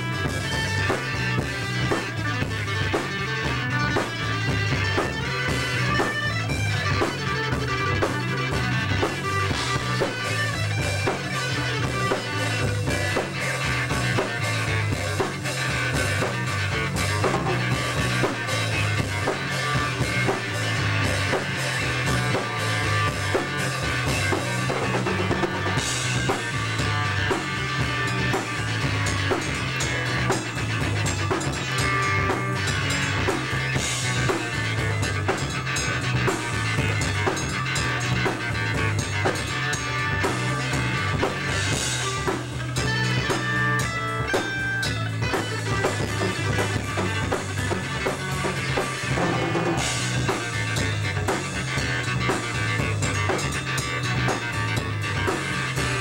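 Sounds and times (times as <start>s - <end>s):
drum kit beat: 0.0s - 56.0s
keyboard: 0.0s - 56.0s.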